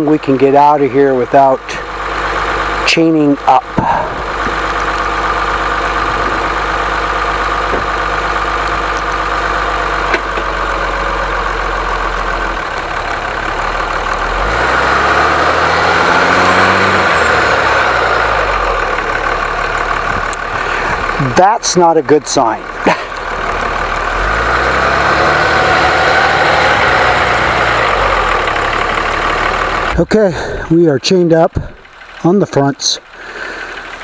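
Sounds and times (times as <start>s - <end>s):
vehicle engine idling and revving: 0.0s - 34.0s.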